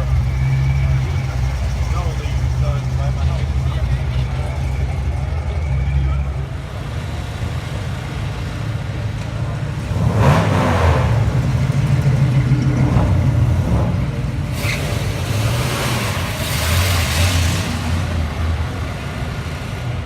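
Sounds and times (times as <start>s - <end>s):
car engines exhaust rumble: 0.0s - 20.0s.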